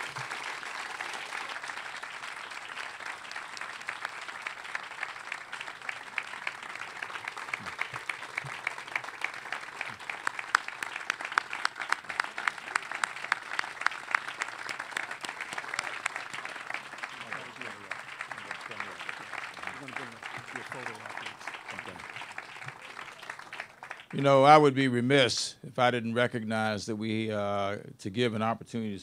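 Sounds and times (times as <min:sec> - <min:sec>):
sharp close hand claps: 0:00.0 - 0:24.2
audience applauding: 0:00.0 - 0:24.7.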